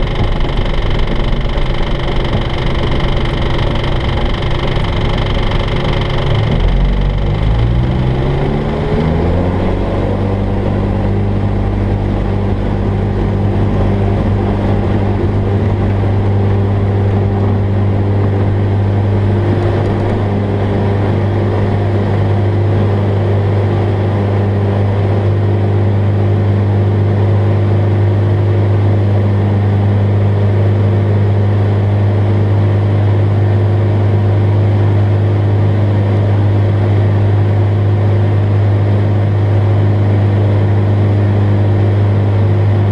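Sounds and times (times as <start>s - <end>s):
light aircraft engine and propeller: 0.0s - 42.9s.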